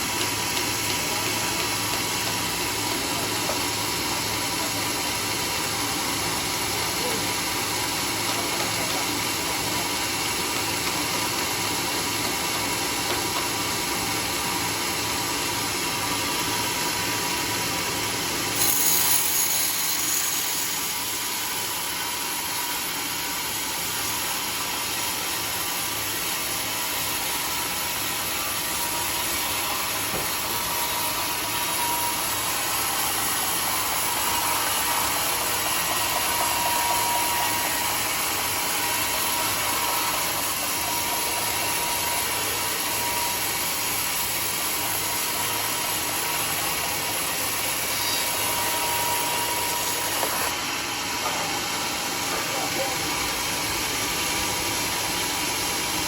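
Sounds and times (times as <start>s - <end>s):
sawmill saw cutting wood: 0.0s - 56.0s.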